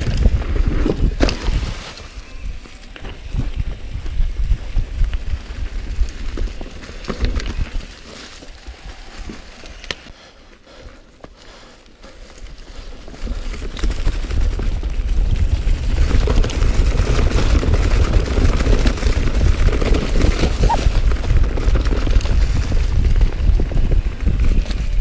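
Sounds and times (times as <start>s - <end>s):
wind rumble on microphone: 0.0s - 10.0s, 12.7s - 25.0s
bike rattle: 0.0s - 25.0s
bike tyres rolling over leaves: 0.0s - 25.0s.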